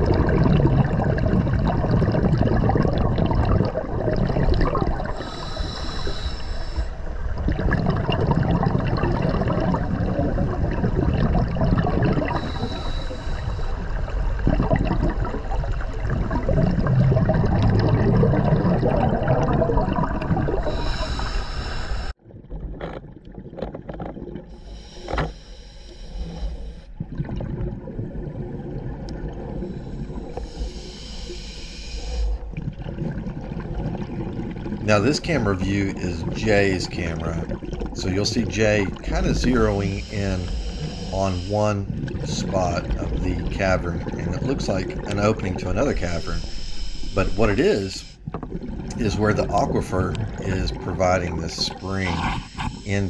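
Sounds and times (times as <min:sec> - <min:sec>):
underwater rushing water: 0:00.0 - 0:25.2, 0:27.0 - 0:31.2, 0:31.9 - 0:53.0
exhaled regulator bubbles: 0:00.0 - 0:25.3, 0:26.1 - 0:53.0.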